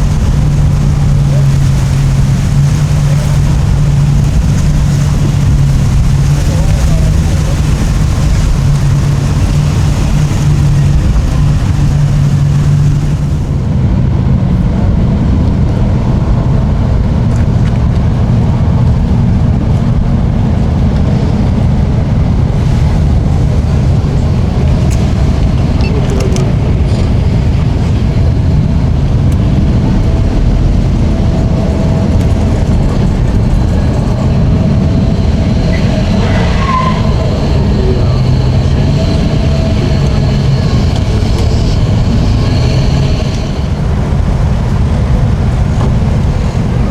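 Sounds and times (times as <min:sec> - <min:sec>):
boat engines rumbling: 0:00.0 - 0:46.9.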